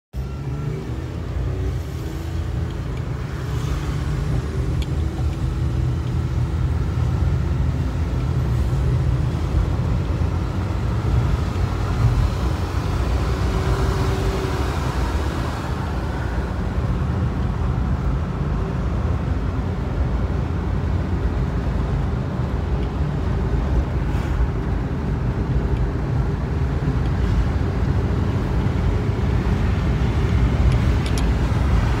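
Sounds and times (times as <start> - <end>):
car road noise rumble: 0.2 - 32.0.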